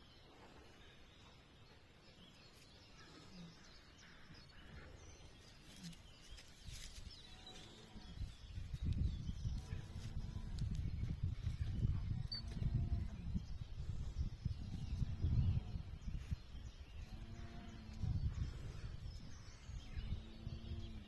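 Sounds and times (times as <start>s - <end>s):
countryside ambience: 0.0s - 21.0s
faint bird chirps: 0.0s - 21.0s.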